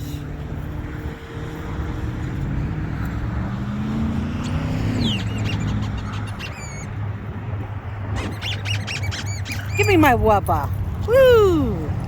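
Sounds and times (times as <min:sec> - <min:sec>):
engine revving: 0:00.0 - 0:10.4
vehicle engines rumbling: 0:00.0 - 0:12.0.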